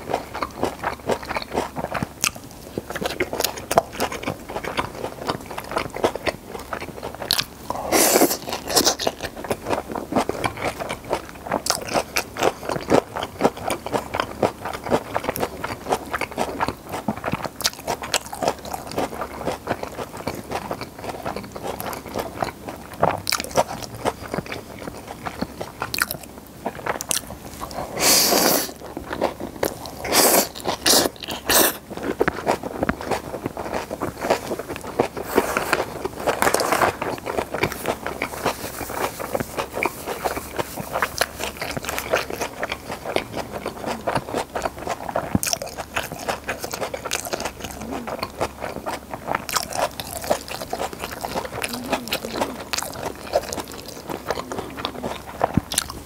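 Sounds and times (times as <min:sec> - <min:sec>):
close-miked chewing and crunching: 0:00.0 - 0:56.0.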